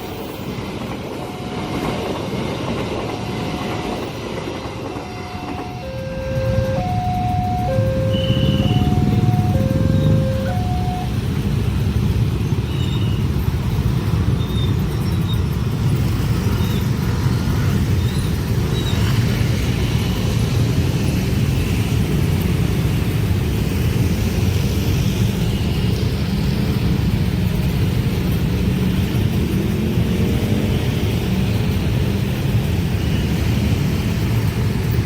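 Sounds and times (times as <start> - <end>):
vehicle engines rumbling: 5.4 - 35.0.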